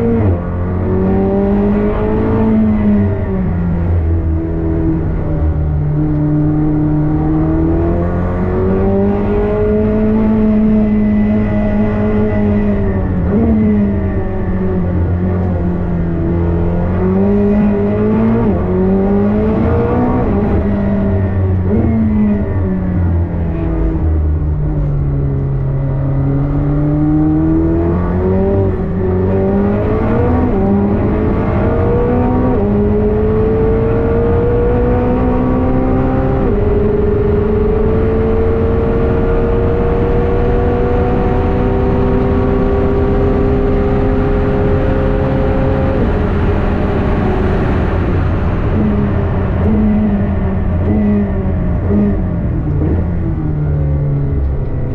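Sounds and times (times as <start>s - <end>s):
sports car engine accelerating: 0.0s - 54.9s.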